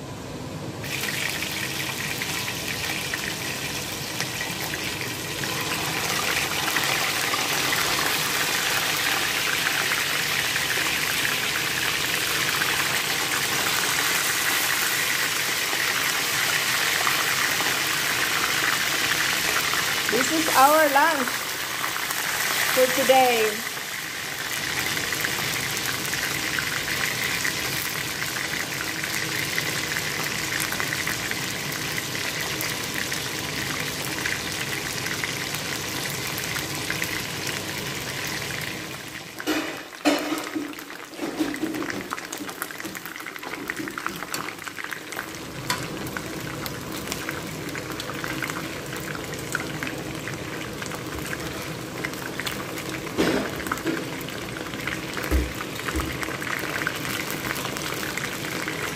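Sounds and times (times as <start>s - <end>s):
chicken wings deep-frying in oil: 0.8s - 58.9s.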